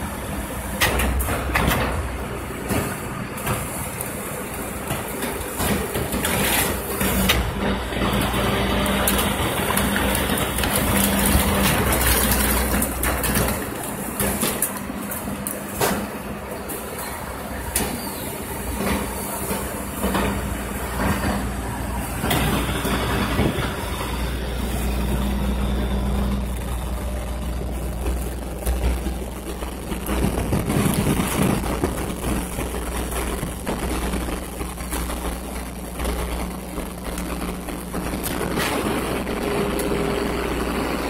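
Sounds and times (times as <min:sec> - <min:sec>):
garbage truck diesel engine: 0:00.0 - 0:41.0.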